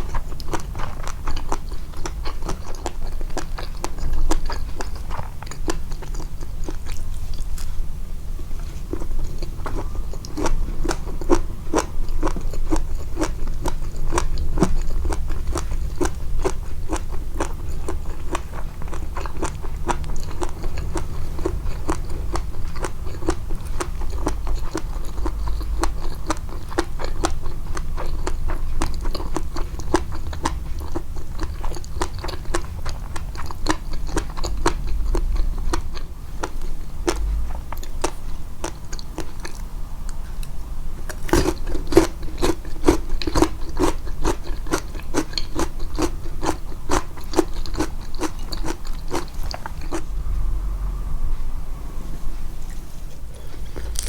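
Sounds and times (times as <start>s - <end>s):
crunchy chewing: 0.0s - 7.8s, 8.5s - 50.8s, 52.7s - 54.0s.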